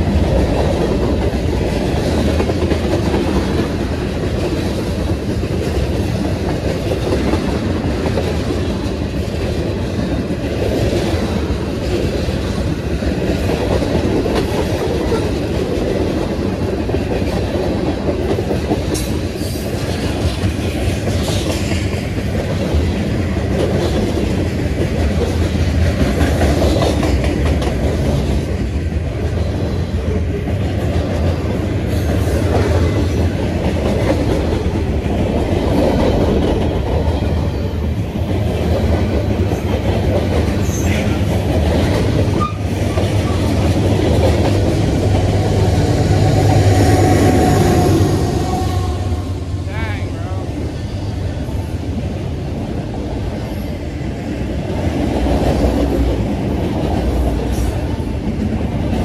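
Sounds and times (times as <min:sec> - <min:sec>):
wheels clickety-clack over joints: 0:00.0 - 0:49.3, 0:51.0 - 0:59.0
freight train rumbling: 0:00.0 - 0:59.0.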